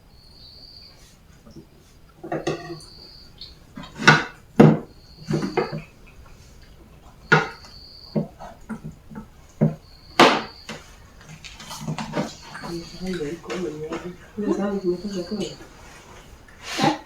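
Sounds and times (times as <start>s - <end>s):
plates and cutlery clinking: 1.5s - 17.0s.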